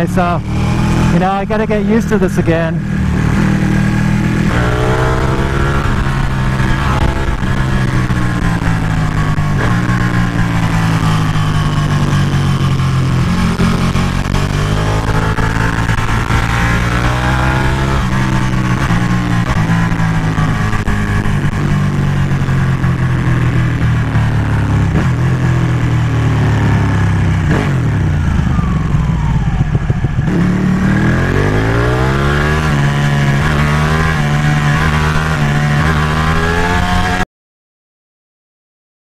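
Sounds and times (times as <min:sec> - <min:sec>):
motorcycle engine revving: 0:00.0 - 0:37.2.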